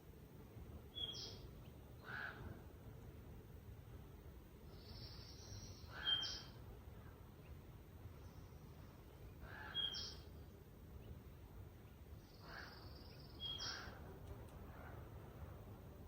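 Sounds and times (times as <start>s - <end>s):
faint low outdoor rumble: 0.0s - 16.0s.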